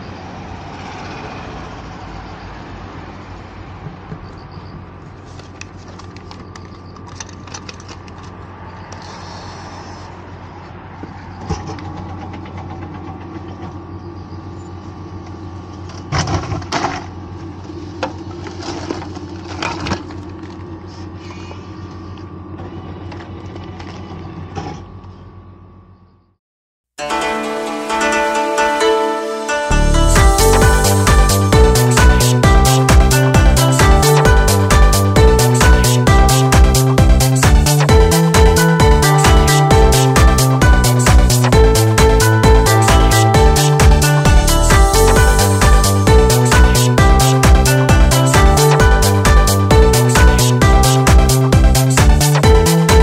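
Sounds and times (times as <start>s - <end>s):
street noise: 0.0s - 25.9s, 27.0s - 53.0s
vending machine hum: 0.0s - 26.3s, 27.0s - 53.0s.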